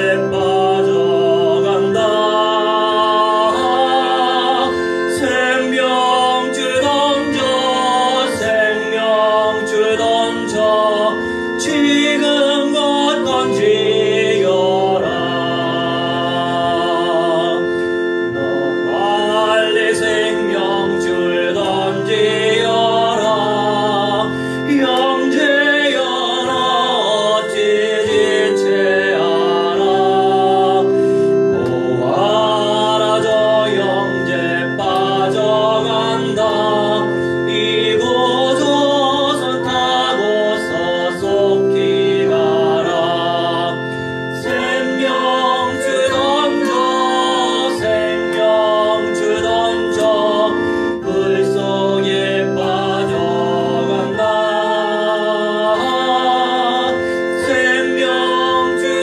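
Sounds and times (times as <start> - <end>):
electric keyboard organ chords: 0.0 - 59.0
man singing into microphone: 0.0 - 59.0.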